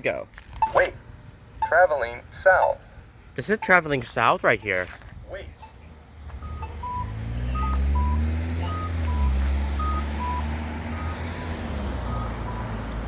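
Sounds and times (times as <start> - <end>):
pedestrian signal beeps: 0.5 - 1.0, 1.6 - 2.2, 3.4 - 12.8.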